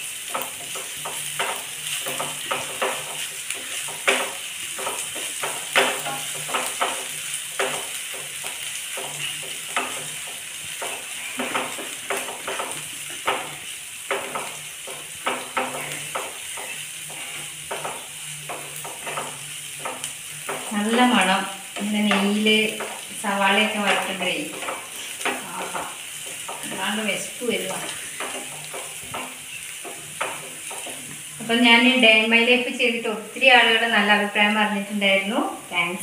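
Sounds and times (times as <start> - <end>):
onions sizzling in a pan: 0.0 - 36.0
spatula scraping a pan: 0.1 - 31.6.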